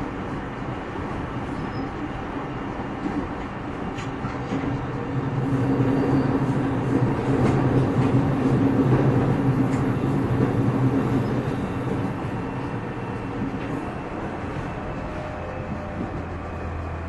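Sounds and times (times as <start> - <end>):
train motor and gear hum: 0.0 - 17.0
train wheel and rail noise: 0.0 - 17.0.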